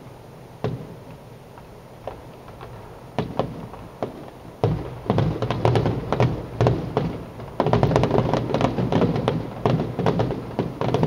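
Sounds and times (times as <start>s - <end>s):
fireworks bangs and crackles: 0.6s - 11.0s.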